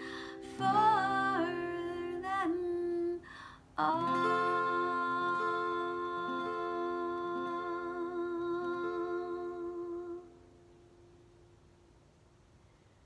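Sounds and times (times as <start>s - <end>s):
woman singing with vibrato: 0.0s - 10.5s
acoustic guitar: 0.0s - 11.9s.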